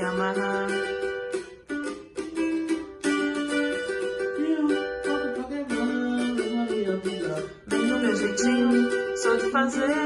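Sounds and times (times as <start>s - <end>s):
small guitar strumming chords: 0.0s - 10.0s.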